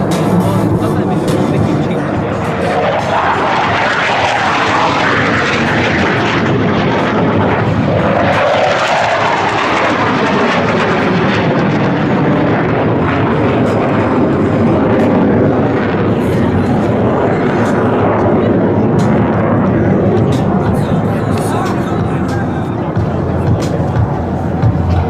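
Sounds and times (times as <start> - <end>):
jet roar overhead: 0.0 - 25.0.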